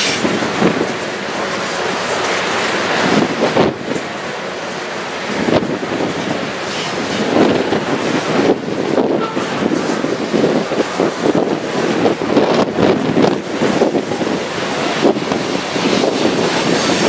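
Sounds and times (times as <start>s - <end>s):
freight train wheels clattering: 0.0s - 17.0s
wind buffeting microphone: 0.0s - 17.0s.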